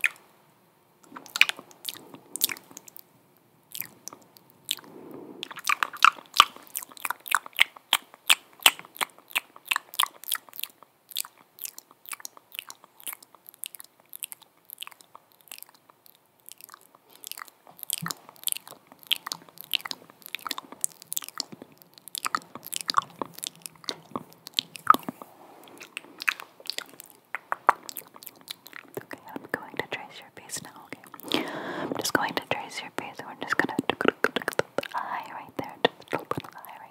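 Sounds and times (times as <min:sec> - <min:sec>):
wet tongue clicks and lip smacks: 0:00.0 - 0:00.2, 0:01.0 - 0:03.0, 0:03.7 - 0:36.9.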